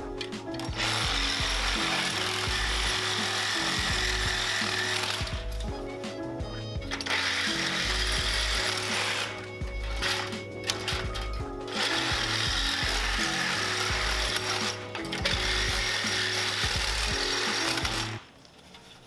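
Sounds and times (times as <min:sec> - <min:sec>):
reciprocating saw cutting metal: 0:00.1 - 0:06.1, 0:06.8 - 0:19.0.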